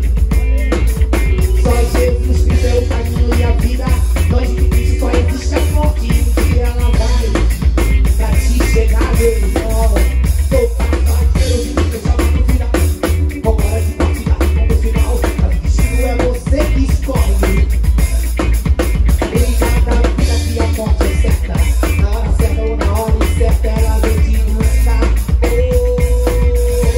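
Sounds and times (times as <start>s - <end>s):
drum kit: 0.0s - 26.9s
electric bass groove: 0.0s - 26.9s.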